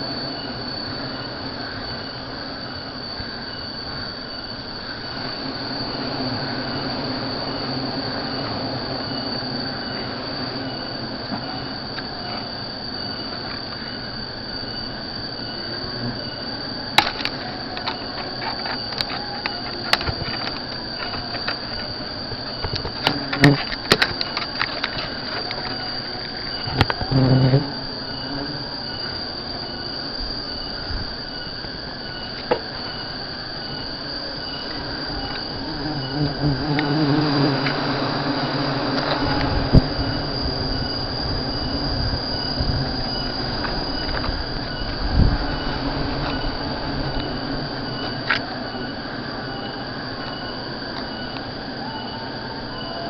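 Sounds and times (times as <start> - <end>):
rustling hiss: 0.0 - 52.8
high-pitched insect drone: 0.0 - 53.0.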